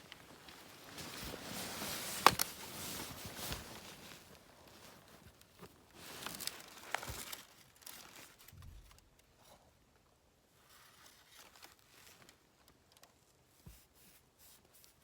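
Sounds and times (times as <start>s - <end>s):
rustling and crunching handling noises: 0.0s - 15.0s.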